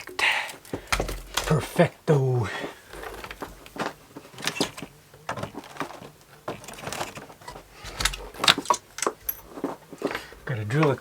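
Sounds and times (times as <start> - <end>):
small parts and tools clicking: 0.0 - 1.8, 2.6 - 11.0.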